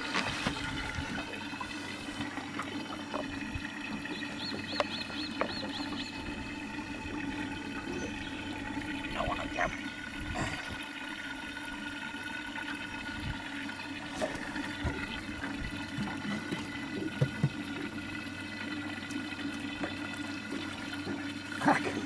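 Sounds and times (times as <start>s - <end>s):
steady hum: 0.0s - 22.0s
water sloshing and splashing: 0.0s - 22.0s.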